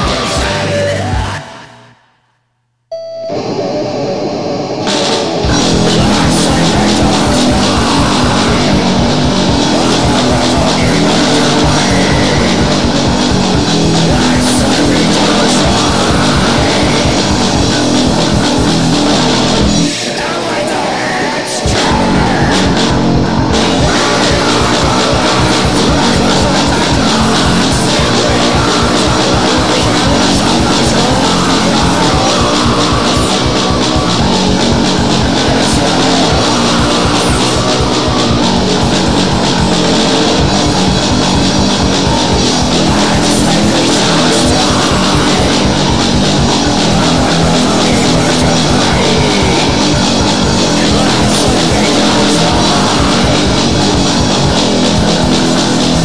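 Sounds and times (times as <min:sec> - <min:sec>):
fast driving drums: 0:00.0 - 0:01.4, 0:04.8 - 0:56.0
distorted electric guitars: 0:00.0 - 0:02.1, 0:02.9 - 0:56.0.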